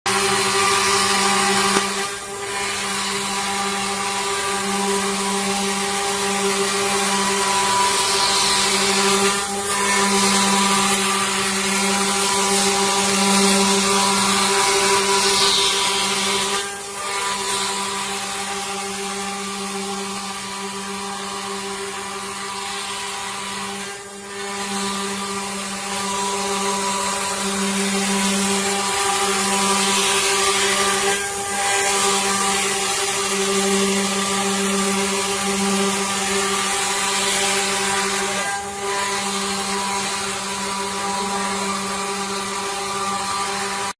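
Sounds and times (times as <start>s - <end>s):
router spindle motor whine: 0.1s - 43.9s.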